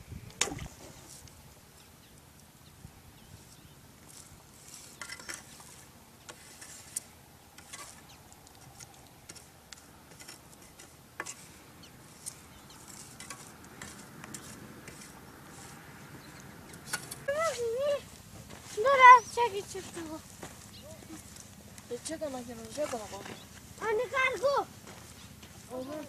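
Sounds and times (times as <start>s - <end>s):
hands patting and scraping dung: 3.4s - 26.0s.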